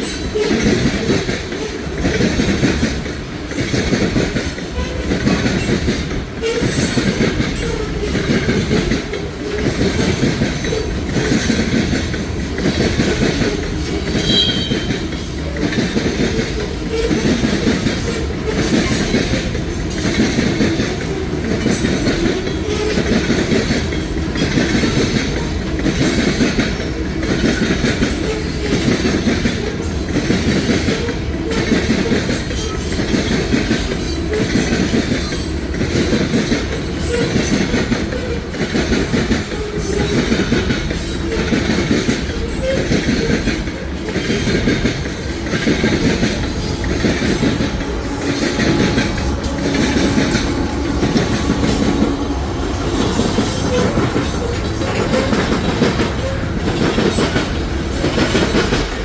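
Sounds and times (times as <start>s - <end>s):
freight train wheels clacking: 0.0s - 59.0s
train rumble: 0.0s - 59.0s.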